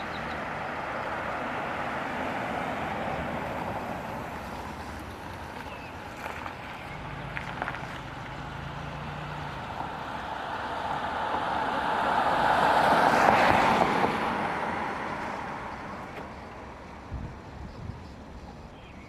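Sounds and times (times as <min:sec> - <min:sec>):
road vehicle passing by: 0:00.0 - 0:19.0.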